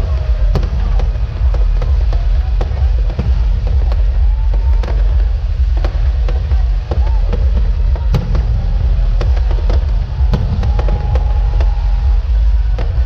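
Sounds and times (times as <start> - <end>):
deep rumble: 0.0 - 13.0
fireworks bangs: 0.0 - 13.0.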